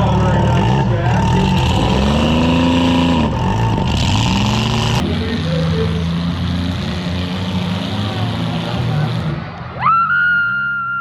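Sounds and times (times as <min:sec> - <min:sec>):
car engines revving: 0:00.0 - 0:10.9.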